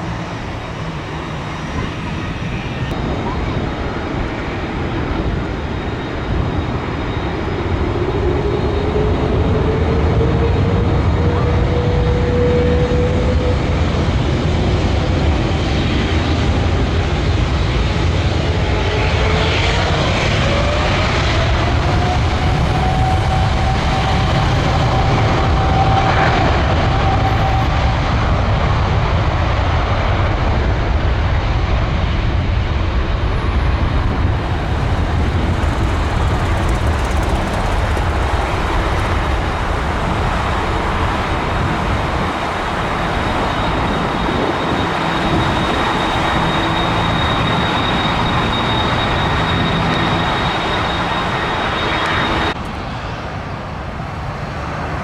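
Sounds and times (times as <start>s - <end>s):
jet airliner passing overhead: 0.0s - 55.0s
jet engine whine: 0.0s - 55.0s.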